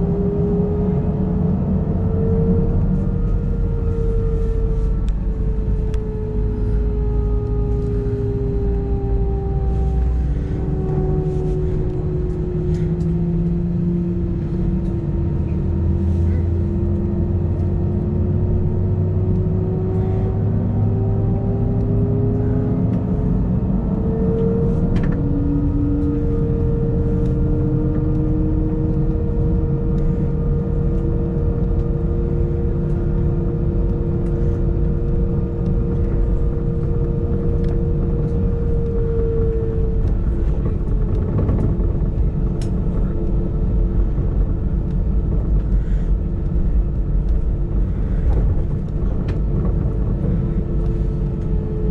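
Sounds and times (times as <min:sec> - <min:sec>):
heavy continuous rumble: 0:00.0 - 0:51.9
jet engines whining: 0:00.0 - 0:51.9.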